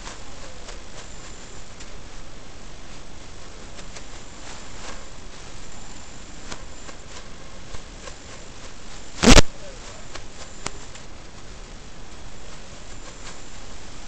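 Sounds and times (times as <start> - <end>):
loud crackling burst: 0.0 - 14.0
static hiss with crackles: 0.0 - 14.0.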